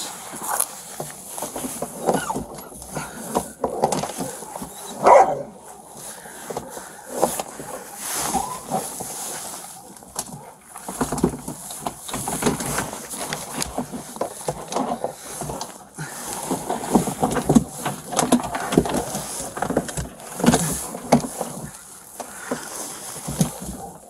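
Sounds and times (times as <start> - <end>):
cloth rustling against microphone: 0.0 - 24.0
small knocks and scrapes: 0.0 - 24.0.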